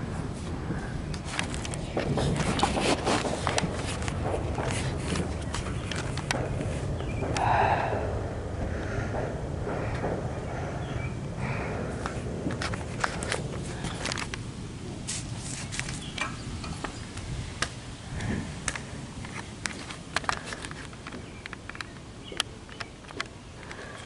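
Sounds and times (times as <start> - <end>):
low background rumble: 0.0 - 23.9
firecrackers popping: 0.0 - 24.0.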